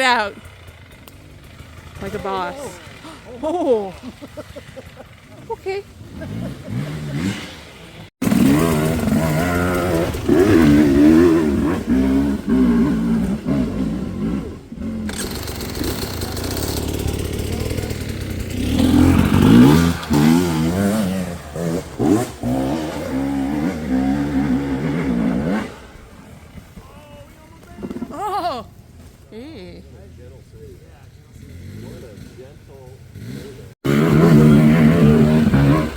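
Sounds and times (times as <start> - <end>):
dirt bike engine revving: 0.0 - 27.0, 27.6 - 29.0, 30.1 - 35.9.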